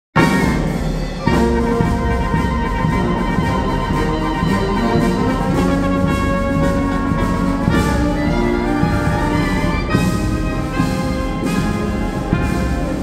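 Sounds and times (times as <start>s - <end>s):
concert band playing a march: 0.2s - 13.0s.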